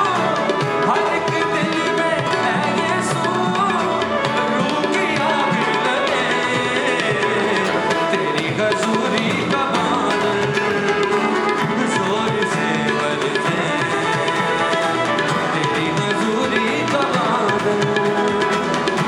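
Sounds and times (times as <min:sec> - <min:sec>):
band playing worship song: 0:00.0 - 0:19.0
person singing: 0:00.0 - 0:19.0
steady drum rhythm: 0:00.0 - 0:19.0.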